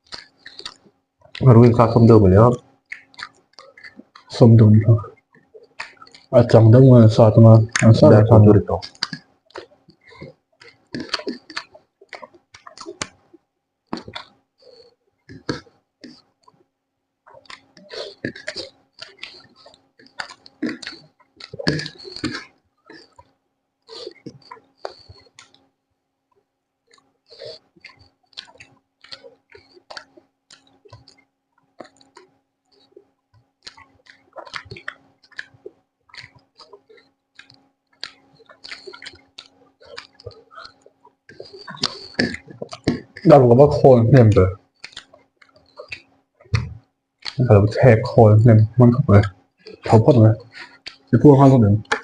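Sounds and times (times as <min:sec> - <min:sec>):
wet mouth clicks and smacks: 0:00.0 - 0:01.5, 0:02.8 - 0:04.3, 0:05.1 - 0:06.3, 0:07.7 - 0:07.9, 0:08.8 - 0:25.7, 0:26.3 - 0:43.2, 0:44.2 - 0:48.2, 0:49.0 - 0:52.0
person chewing food: 0:00.0 - 0:06.3, 0:07.5 - 0:52.0
faint steady hum: 0:00.0 - 0:52.0.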